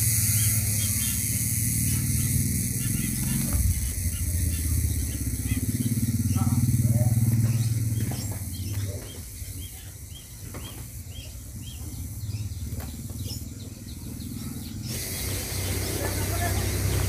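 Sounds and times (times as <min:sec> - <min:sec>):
bird chirping: 0:00.0 - 0:17.0
distant engine hum: 0:00.0 - 0:17.0.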